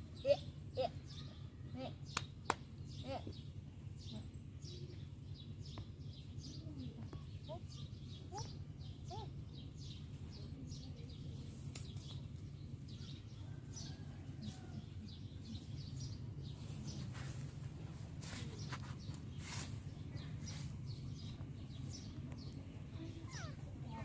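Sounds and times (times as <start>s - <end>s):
low background hum: 0.0s - 24.0s
small birds chirping: 0.0s - 24.0s.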